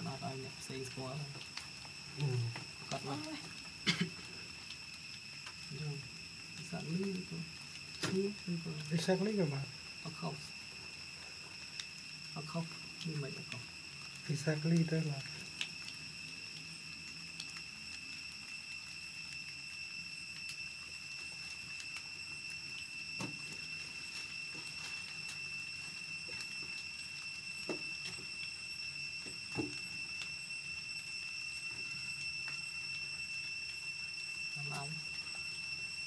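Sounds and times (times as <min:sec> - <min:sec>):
high-pitched whine: 0:00.0 - 0:36.0.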